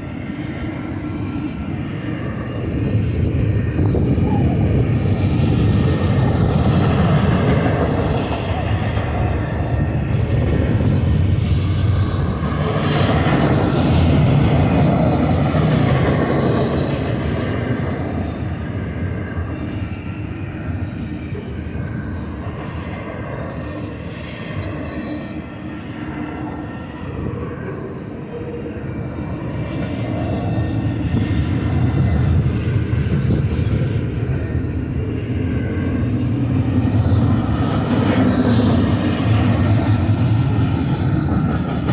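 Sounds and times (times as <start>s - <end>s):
diesel locomotives rumbling: 0.0s - 41.9s
freight train passing: 0.0s - 41.9s.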